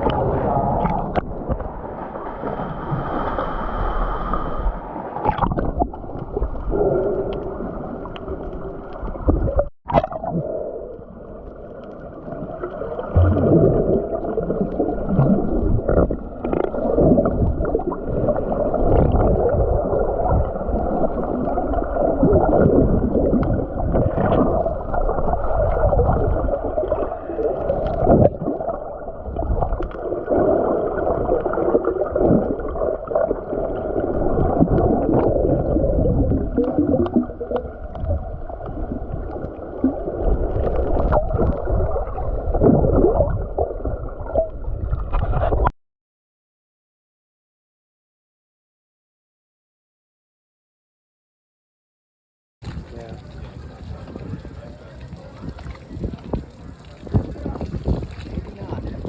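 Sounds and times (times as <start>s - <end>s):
muffled underwater water churning: 0.0s - 45.7s, 52.6s - 59.0s.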